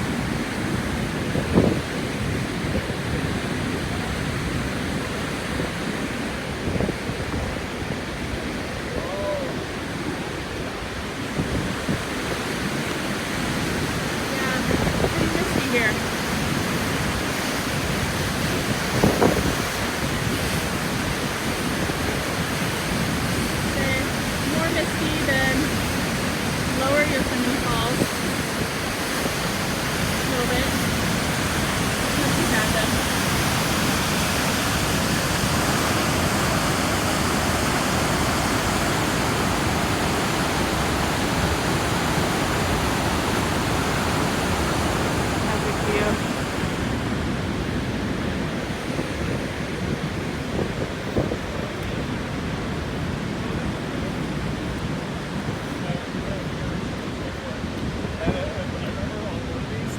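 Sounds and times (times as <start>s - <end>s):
waterfall rushing: 0.0s - 59.9s
wind buffeting microphone: 0.0s - 59.9s.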